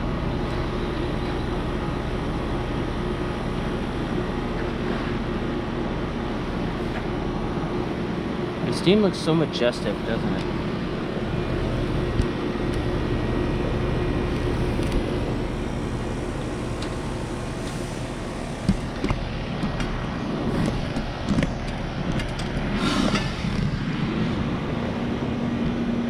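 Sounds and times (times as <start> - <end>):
heat pump compressor hum: 0.0 - 26.0.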